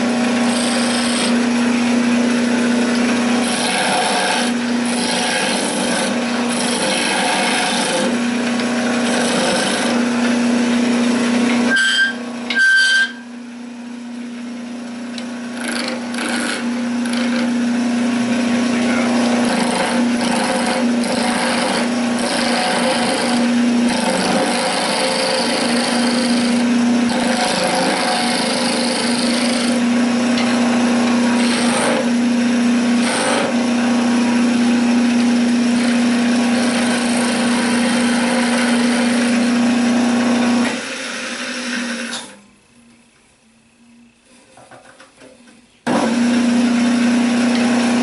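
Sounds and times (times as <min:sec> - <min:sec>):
lathe motor hum: 0:00.0 - 0:12.6, 0:13.3 - 0:42.2, 0:45.9 - 0:48.0
turning tool scraping wood: 0:00.0 - 0:13.2, 0:15.5 - 0:41.8.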